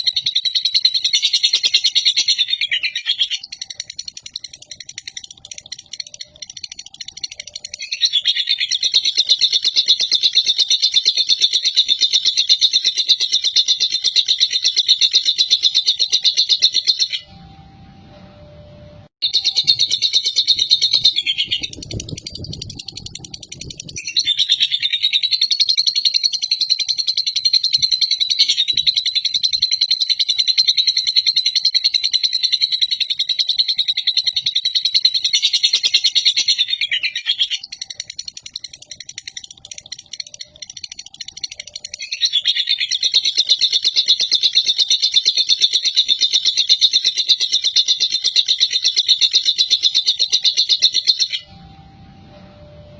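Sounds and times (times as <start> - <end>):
lovebird chattering trill: 0.0 - 17.3, 19.2 - 51.5.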